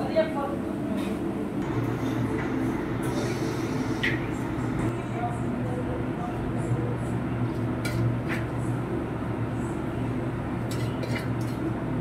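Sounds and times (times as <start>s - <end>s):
kitchen equipment hum: 0.0s - 12.0s.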